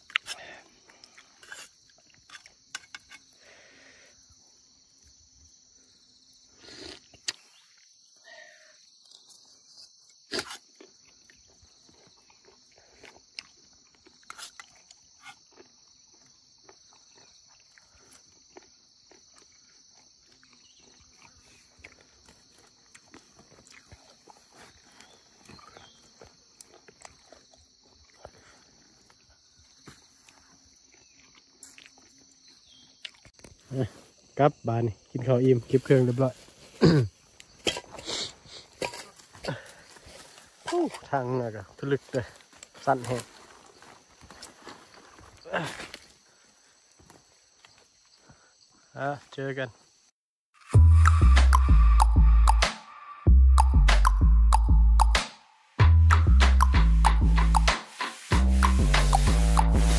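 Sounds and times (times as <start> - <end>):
insect buzz: 0.0 - 49.1, 49.8 - 59.9.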